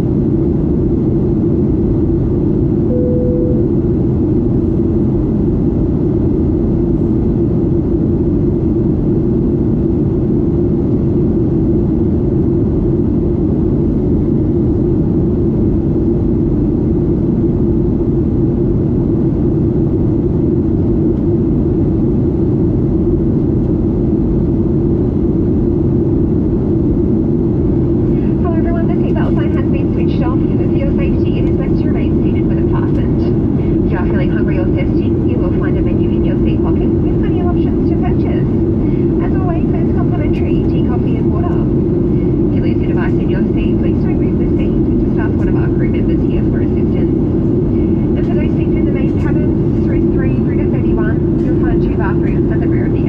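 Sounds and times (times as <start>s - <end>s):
jet engine rumble in cabin: 0.0s - 53.0s.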